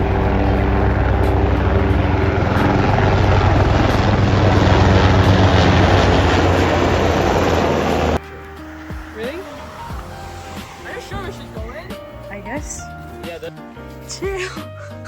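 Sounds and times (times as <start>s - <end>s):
pulsing mechanical drone: 0.0s - 12.9s.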